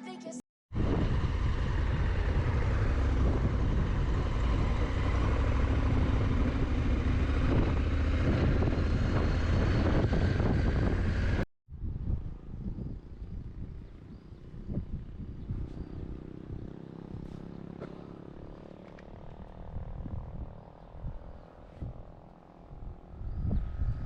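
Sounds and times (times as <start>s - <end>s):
wind rush on microphone: 0.7s - 17.8s, 18.4s - 24.0s
motorcycle engine running: 0.7s - 24.0s.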